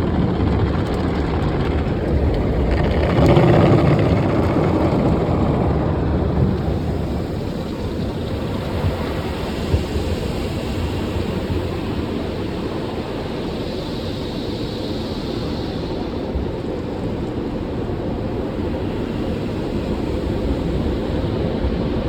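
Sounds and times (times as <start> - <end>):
car wash water and machinery: 0.0 - 22.0.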